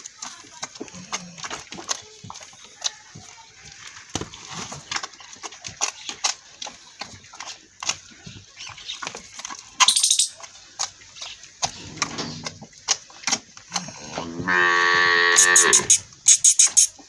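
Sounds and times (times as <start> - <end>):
calf sucking and smacking: 0.0 - 14.4, 15.4 - 17.0.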